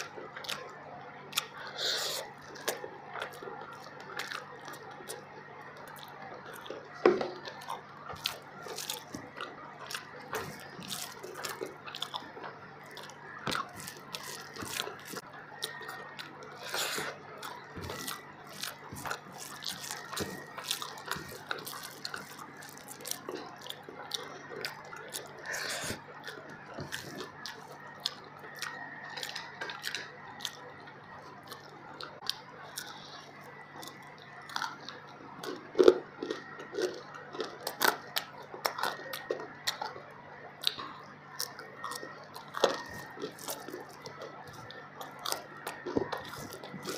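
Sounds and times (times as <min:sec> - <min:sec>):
chewing and wet mouth clicks: 0:00.0 - 0:40.0, 0:40.6 - 0:46.9.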